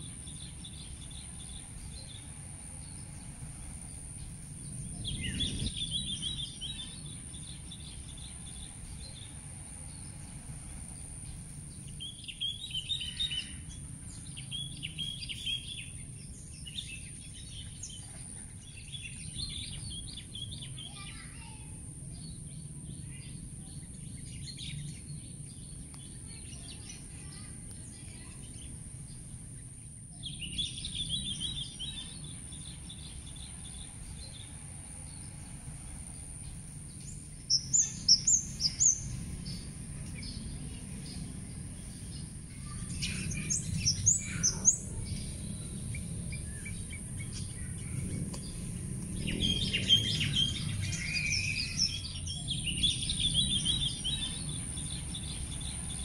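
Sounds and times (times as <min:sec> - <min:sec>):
birds chirping and trilling: 0:00.0 - 0:56.0
low background rumble: 0:00.0 - 0:56.0
steady high hiss: 0:00.0 - 0:56.0.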